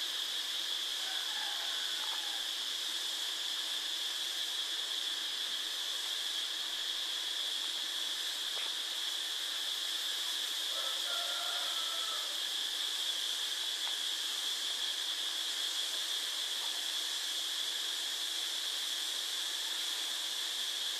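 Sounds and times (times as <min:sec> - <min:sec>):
steady high hiss: 0:00.0 - 0:20.9.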